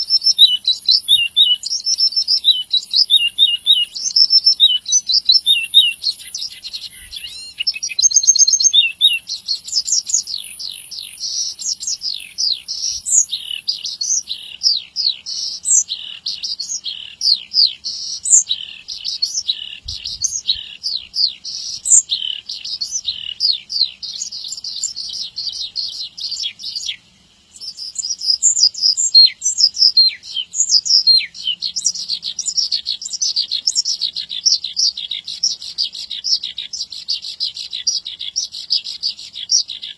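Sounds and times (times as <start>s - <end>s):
bush lark singing: 0.0s - 39.9s.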